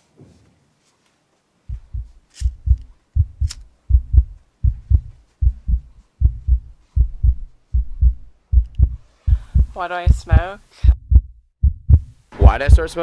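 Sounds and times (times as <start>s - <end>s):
heartbeat double thump: 1.7s - 13.0s.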